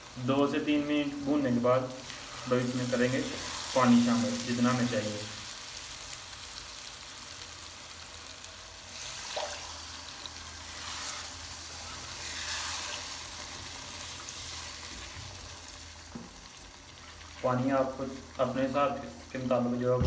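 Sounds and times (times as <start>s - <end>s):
chickpeas sizzling in frying pan: 0.0s - 20.0s.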